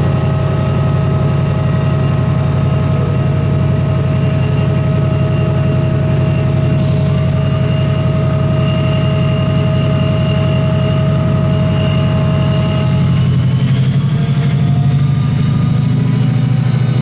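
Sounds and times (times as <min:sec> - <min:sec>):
diesel train engine throbbing: 0:00.0 - 0:17.0
whining tones: 0:00.0 - 0:17.0.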